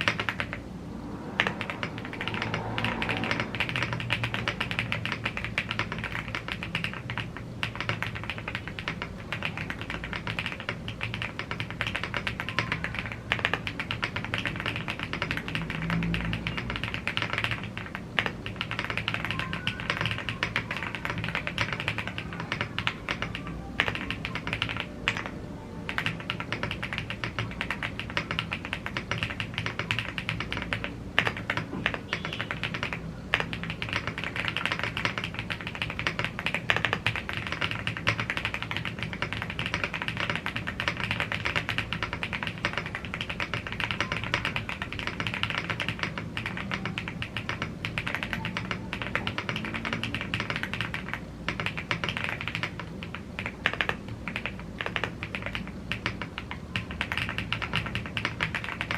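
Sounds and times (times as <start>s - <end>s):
fast typing on mechanical keyboard: 0.0s - 58.9s.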